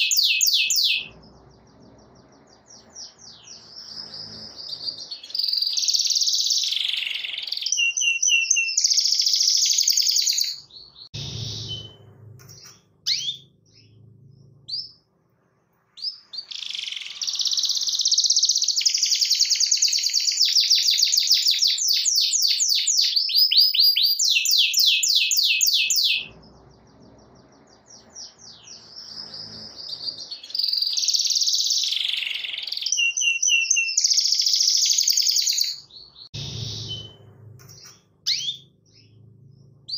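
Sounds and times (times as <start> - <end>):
canary singing trills: 0.0 - 15.1, 16.0 - 39.9.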